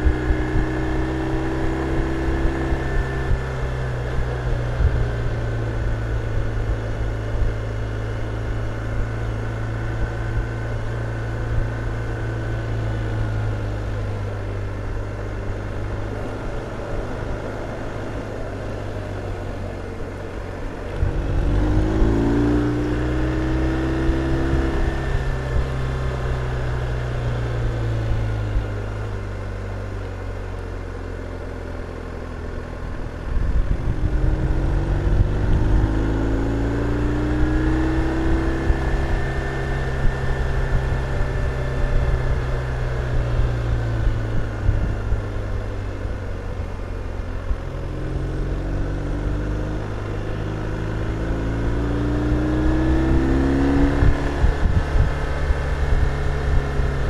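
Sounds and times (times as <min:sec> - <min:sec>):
motorcycle engine cruising: 0:00.0 - 0:57.0
motorcycle engine revving: 0:00.0 - 0:57.0.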